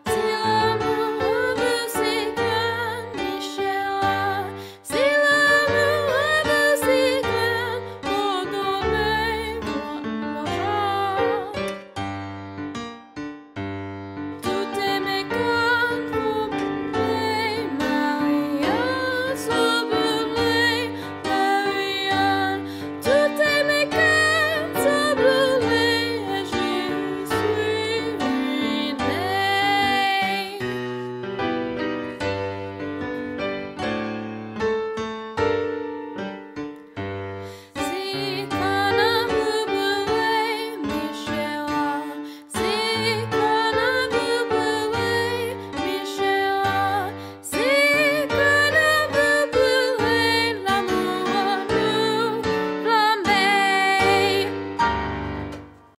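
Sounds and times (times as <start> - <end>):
woman singing with vibrato: 0.0 - 11.6, 14.4 - 30.8, 37.7 - 54.6
instrumental accompaniment: 0.0 - 56.0
piano notes and chords: 0.0 - 56.0.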